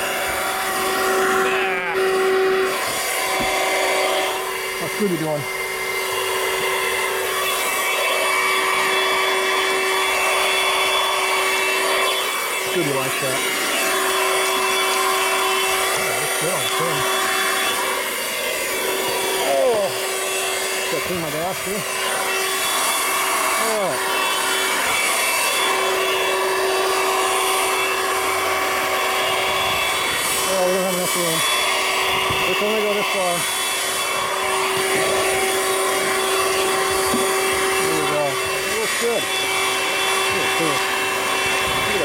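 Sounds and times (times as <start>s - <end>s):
handheld vacuum cleaner running: 0.0s - 42.0s.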